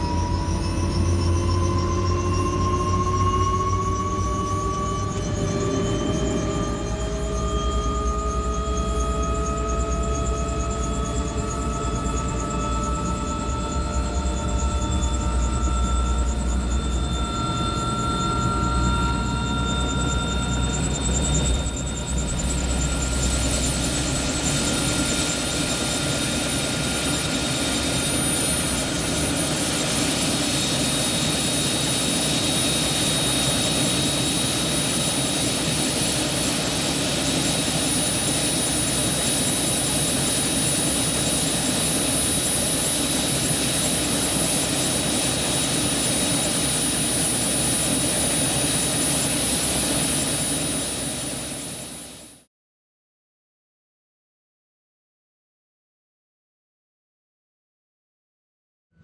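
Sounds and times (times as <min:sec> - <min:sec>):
engine drone with high whine: 0:00.0 - 0:52.4.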